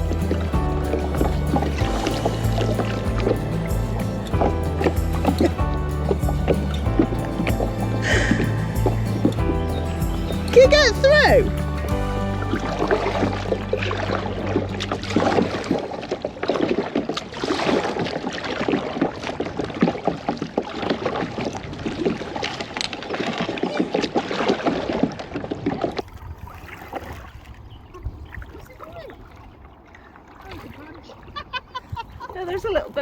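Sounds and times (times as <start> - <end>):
paddle blades splashing: 0.0 - 33.0
water lapping: 0.0 - 33.0.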